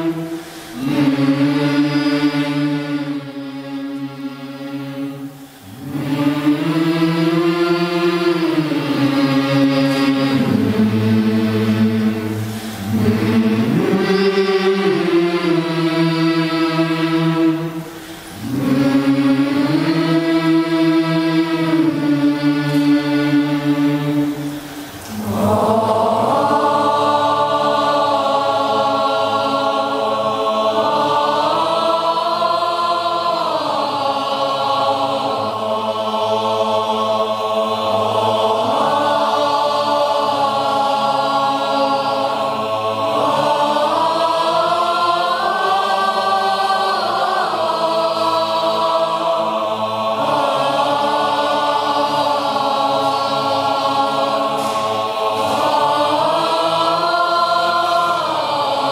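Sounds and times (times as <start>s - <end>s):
choir singing chant-like piece: 0.0s - 58.9s.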